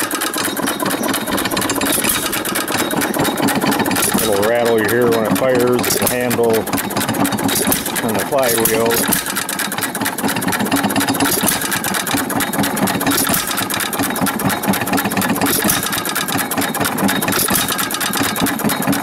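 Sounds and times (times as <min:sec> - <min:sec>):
old engine clattering: 0:00.0 - 0:19.0
starting handle rattling: 0:00.0 - 0:19.0.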